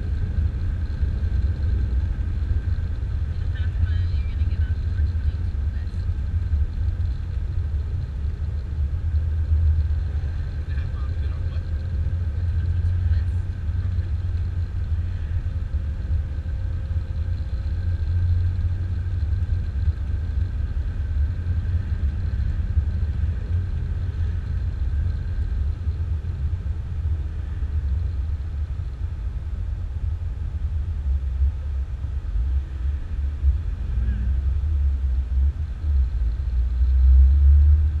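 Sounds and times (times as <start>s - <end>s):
car interior driving rumble: 0.0s - 38.0s.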